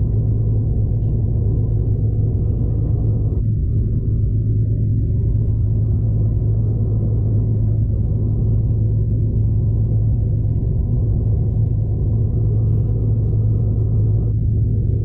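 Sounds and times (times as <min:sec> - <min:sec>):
train interior rumble and hum: 0:00.0 - 0:15.0.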